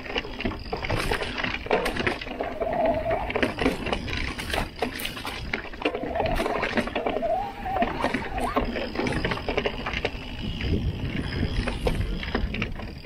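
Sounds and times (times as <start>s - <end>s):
bike chain and frame rattling: 0.0s - 13.0s
bike knocking over rocks: 0.0s - 13.0s
bike tyres crunching on dirt: 0.0s - 13.0s.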